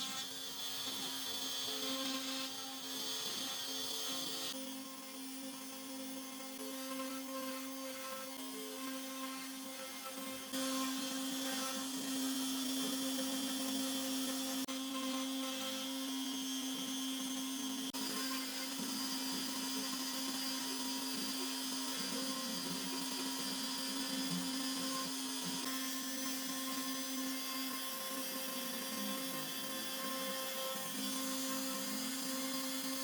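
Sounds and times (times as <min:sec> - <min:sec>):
router spindle motor whine: 0:00.0 - 0:33.0.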